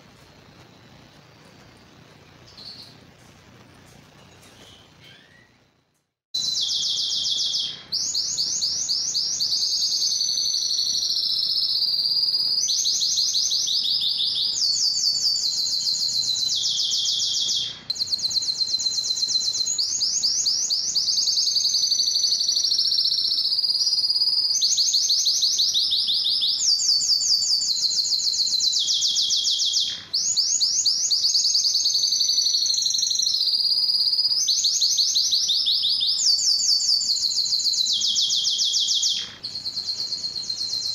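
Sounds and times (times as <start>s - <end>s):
canary singing trills: 0.3s - 3.2s, 4.0s - 5.8s, 6.4s - 40.9s.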